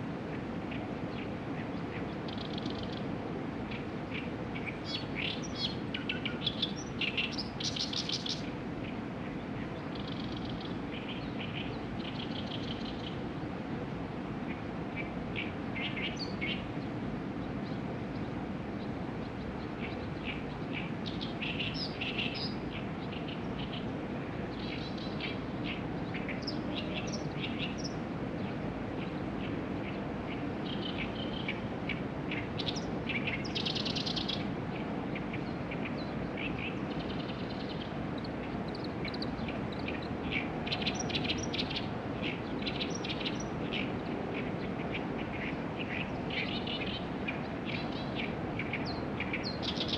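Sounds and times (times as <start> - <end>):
low outdoor background hum: 0.0 - 49.9
birds chirping and trilling: 0.7 - 13.4, 14.5 - 49.9.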